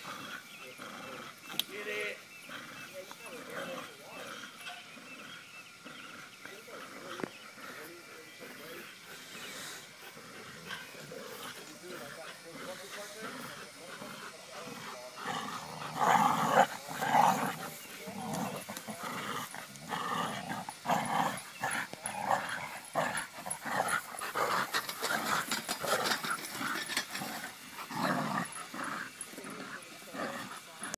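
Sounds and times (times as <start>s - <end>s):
dogs play-growling: 0.0s - 30.9s.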